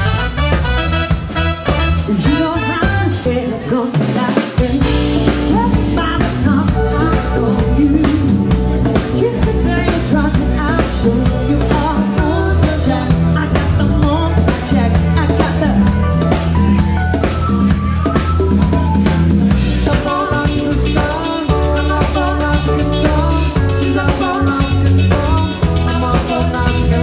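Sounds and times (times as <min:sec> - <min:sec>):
drum kit: 0:00.0 - 0:27.0
keyboard: 0:00.0 - 0:27.0
woman singing: 0:02.0 - 0:16.8, 0:19.0 - 0:27.0.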